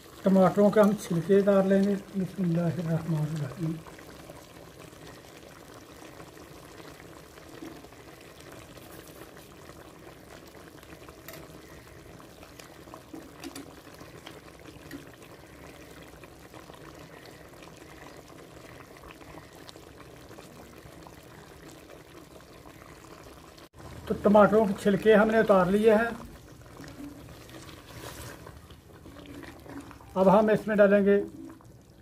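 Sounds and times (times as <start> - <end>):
pot of food bubbling: 0.0 - 32.0.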